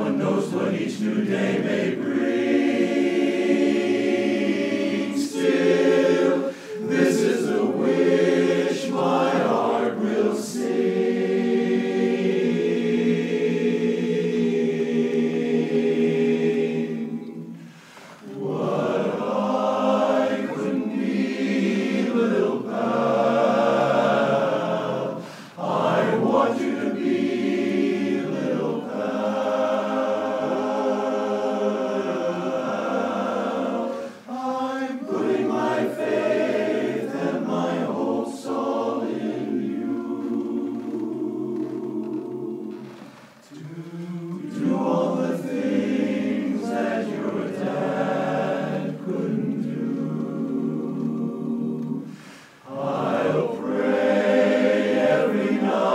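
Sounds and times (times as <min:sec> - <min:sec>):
male chorus singing a cappella: 0:00.0 - 0:55.9.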